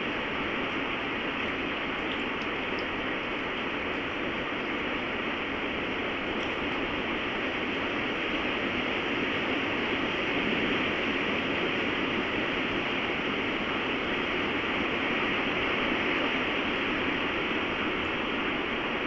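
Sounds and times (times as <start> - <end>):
storm wind blowing hard: 0.0 - 19.0.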